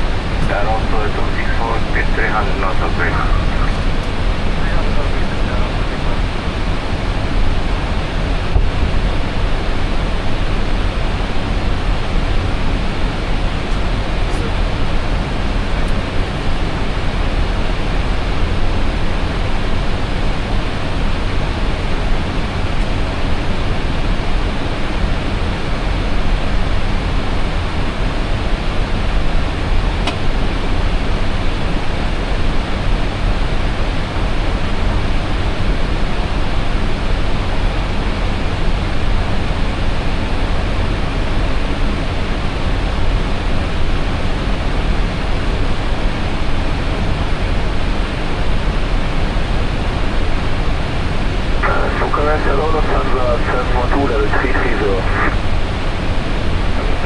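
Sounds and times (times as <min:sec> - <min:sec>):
aircraft cockpit noise in flight: 0:00.0 - 0:57.0.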